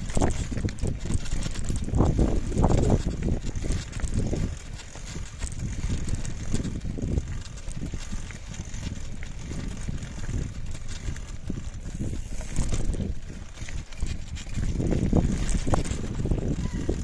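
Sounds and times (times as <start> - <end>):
tyres crunching on gravel: 0.0 - 17.0
wind rumble on microphone: 0.0 - 17.0.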